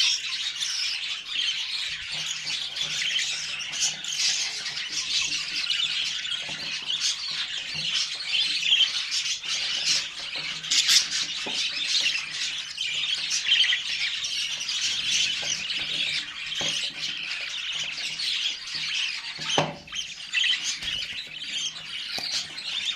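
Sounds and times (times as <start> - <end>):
budgerigar chicks chirping: 0.0 - 22.9.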